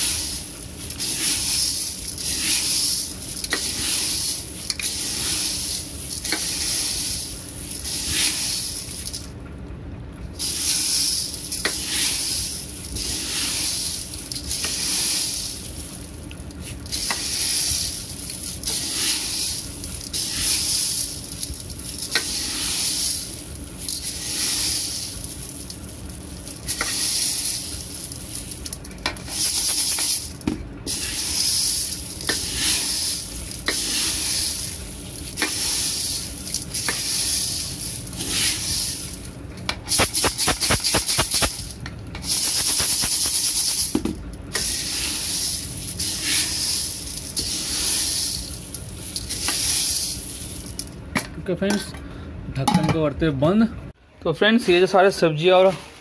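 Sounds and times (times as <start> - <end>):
grains clicking against pot: 0.0 - 9.3, 10.4 - 51.0
beans rustling while stirred: 0.0 - 51.1, 54.6 - 56.0.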